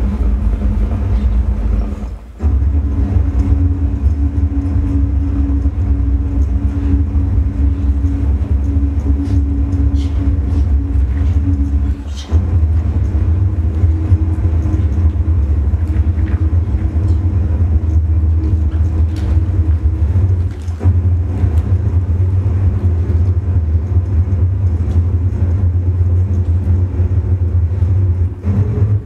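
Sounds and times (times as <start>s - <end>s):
faint hum tones: 0.0s - 29.0s
low rumbling drone: 0.0s - 29.0s.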